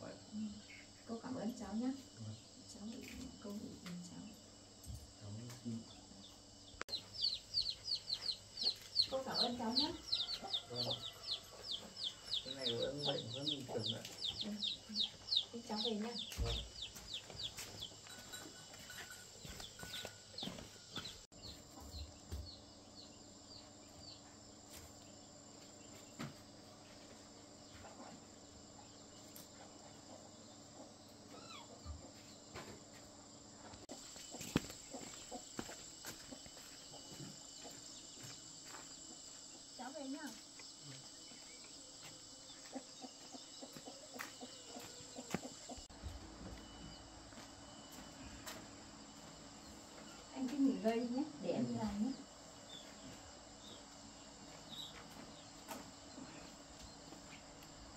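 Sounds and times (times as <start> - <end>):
insects chirring: 0.0 - 57.9.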